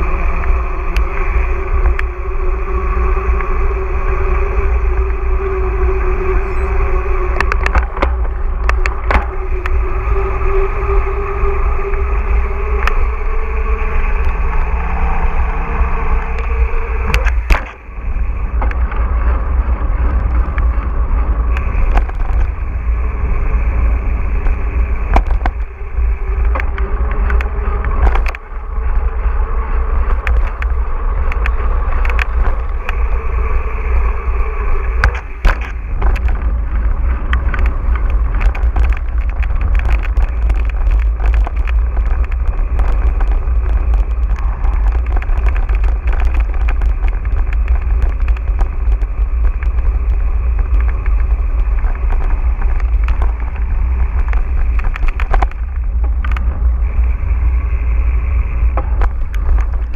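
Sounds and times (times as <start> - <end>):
rolling tyre noise: 0.0 - 59.9
wind rumble on microphone: 0.0 - 59.9
bike rattling and knocking: 1.4 - 13.8, 16.2 - 34.2, 34.8 - 57.2, 58.6 - 59.9.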